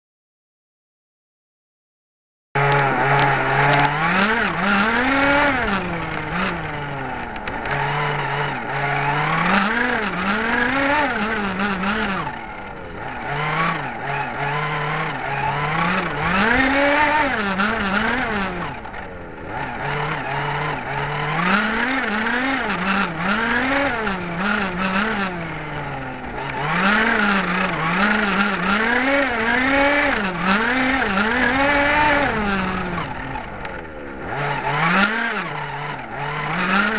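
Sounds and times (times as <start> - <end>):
small engine revving: 2.6 - 36.9.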